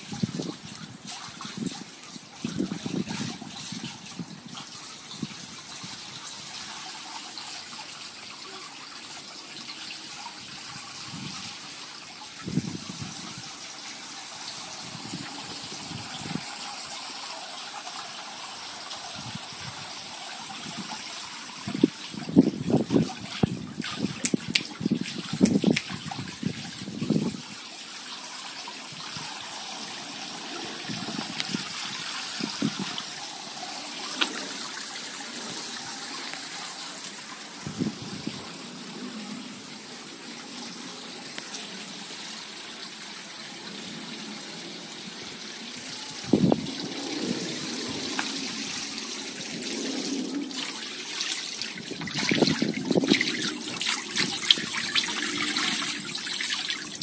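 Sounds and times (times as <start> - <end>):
water splashing into pond: 0.0 - 57.0.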